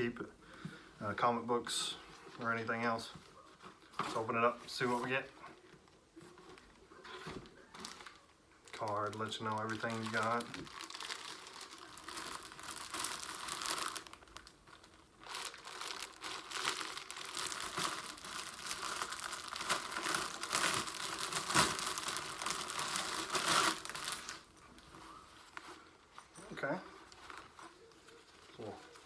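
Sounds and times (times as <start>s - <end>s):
packaging crinkling and rustling: 2.3s - 29.0s.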